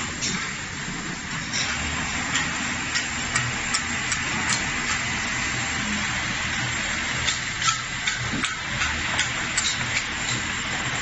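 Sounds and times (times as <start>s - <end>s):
line winding machine running: 1.7s - 11.0s.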